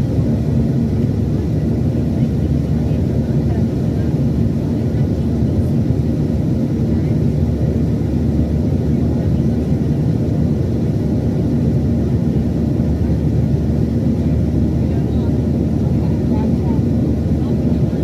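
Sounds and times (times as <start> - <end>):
airplane cabin engine noise: 0.0 - 18.0.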